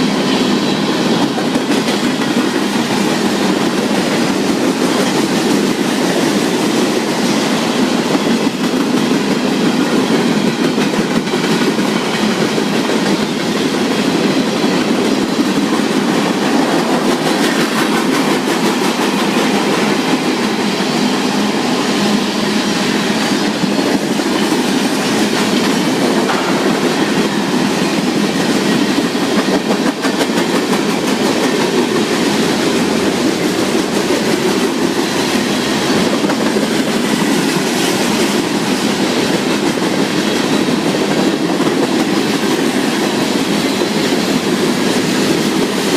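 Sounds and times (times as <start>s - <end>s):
train wheels rolling on rails: 0.0s - 45.9s.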